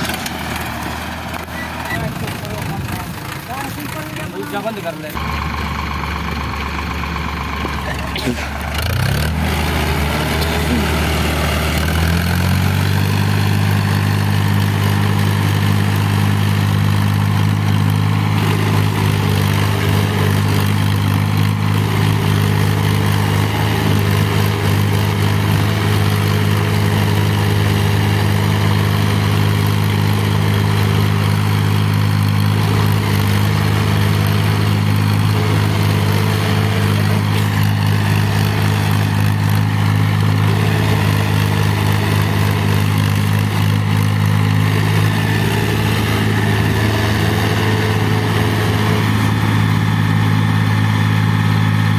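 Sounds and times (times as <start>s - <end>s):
tractor diesel engine revving: 0.0s - 51.9s.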